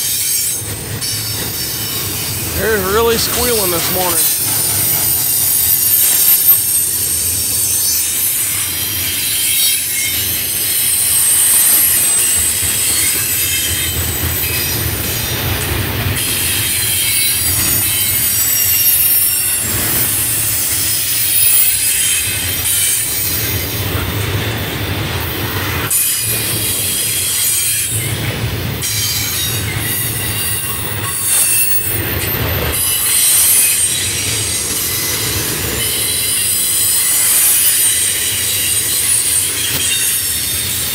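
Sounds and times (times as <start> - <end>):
train wheels squealing: 0.0 - 2.5, 4.2 - 40.9
train rumbling: 0.0 - 40.9.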